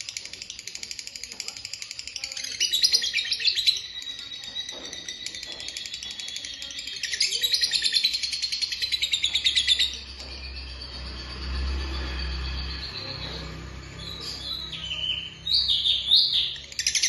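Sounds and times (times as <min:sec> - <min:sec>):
songbird chattering song: 0:00.0 - 0:17.0.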